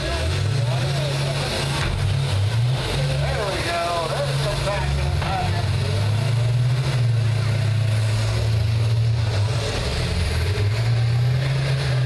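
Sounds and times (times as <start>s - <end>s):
bus engines droning: 0.0s - 12.0s.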